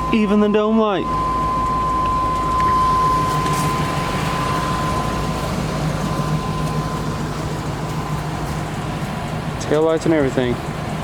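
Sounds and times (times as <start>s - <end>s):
steady high whine: 0.0s - 11.0s
truck engine idling: 0.0s - 11.0s.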